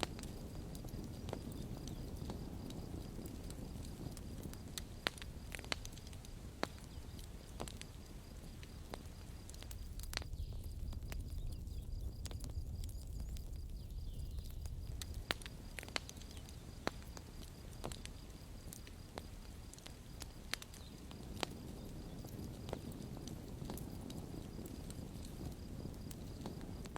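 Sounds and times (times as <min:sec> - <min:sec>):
campfire crackling: 0:00.0 - 0:26.9
fire popping and snapping: 0:00.0 - 0:26.9.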